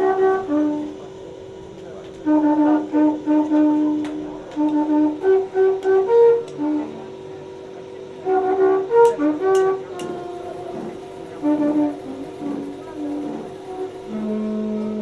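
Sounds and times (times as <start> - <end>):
wind instrument melody: 0.0 - 1.4, 2.1 - 15.0
steady held tone: 0.0 - 15.0.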